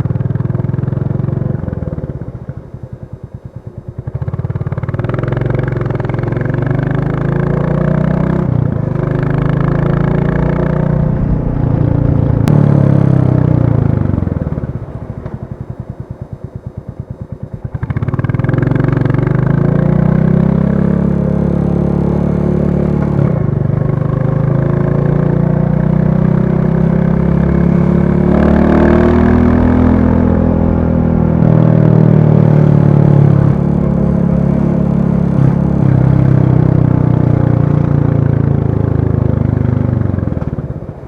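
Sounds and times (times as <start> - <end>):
motorcycle engine thumping and revving: 0.0 - 41.0.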